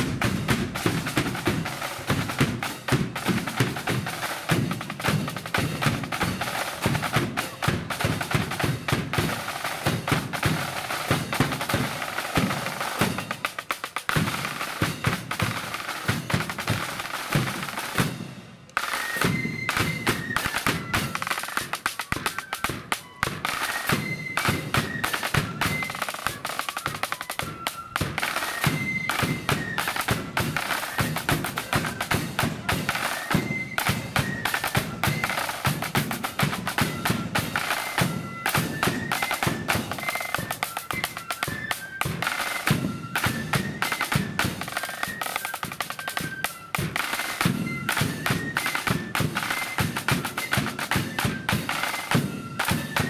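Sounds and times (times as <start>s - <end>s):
flute melody: 0.0s - 53.0s
rapid snare drumming: 0.0s - 53.0s.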